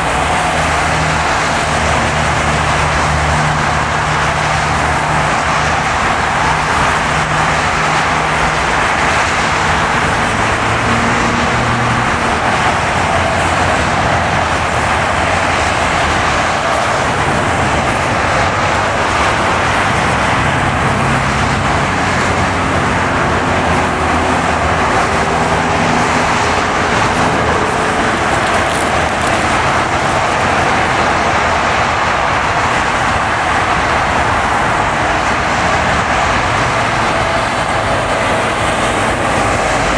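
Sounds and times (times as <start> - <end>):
car engine hum: 0.0 - 39.9
tyres hissing on wet road: 0.0 - 39.9.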